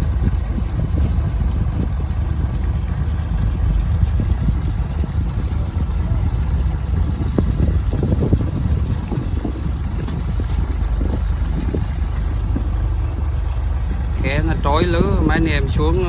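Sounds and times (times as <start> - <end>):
boat engine rumbling: 0.0 - 16.0
net-hauling machinery running: 0.0 - 16.0.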